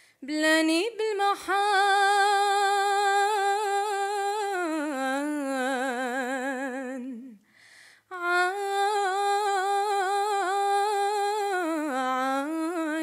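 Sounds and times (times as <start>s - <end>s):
woman singing a cappella: 0.0s - 7.5s, 8.1s - 13.0s.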